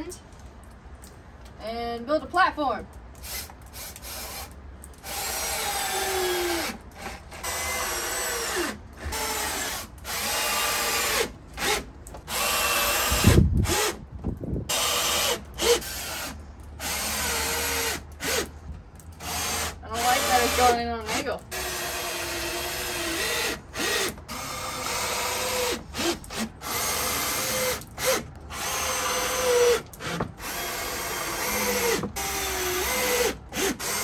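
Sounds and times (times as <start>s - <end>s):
cordless drill driving screws: 3.2s - 14.0s, 14.7s - 18.5s, 19.2s - 34.0s.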